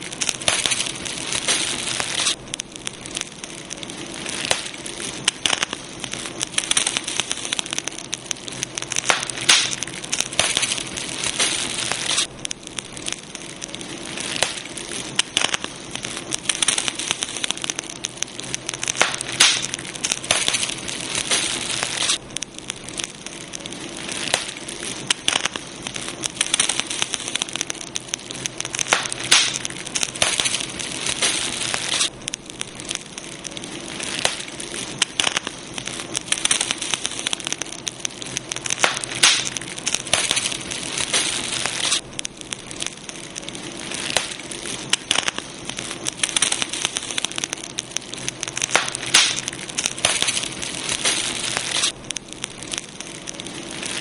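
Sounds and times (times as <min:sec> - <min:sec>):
campfire crackling and popping: 0:00.0 - 0:54.0
soft hiss of fire: 0:00.0 - 0:54.0.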